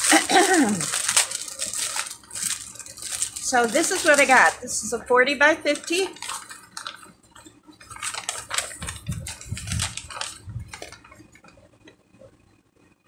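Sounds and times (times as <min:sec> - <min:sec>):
plastic beads rattling: 0:00.0 - 0:04.9, 0:05.6 - 0:11.5
plastic bags crinkling: 0:00.0 - 0:11.6.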